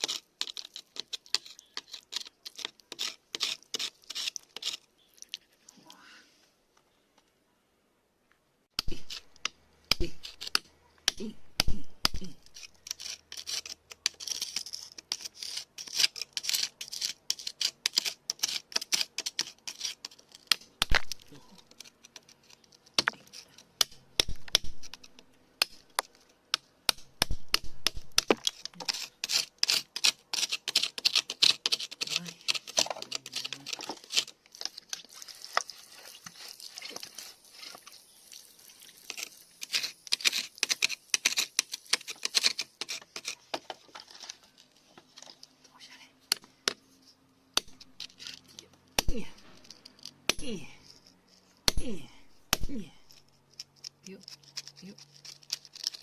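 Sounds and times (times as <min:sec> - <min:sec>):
hand tools scraping soil and stones: 0:00.0 - 0:05.8, 0:08.8 - 0:11.3, 0:12.0 - 0:45.5, 0:47.6 - 0:56.0.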